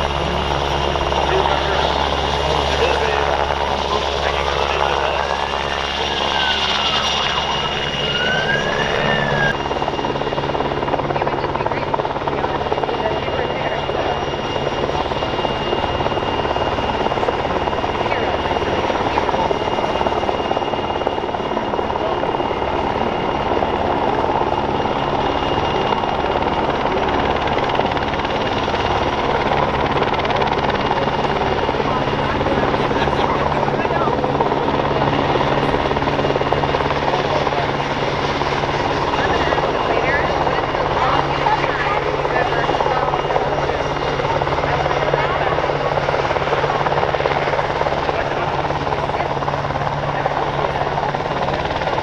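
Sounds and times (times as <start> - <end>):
helicopter hovering: 0.0 - 52.0
thin steady whine: 0.0 - 52.0.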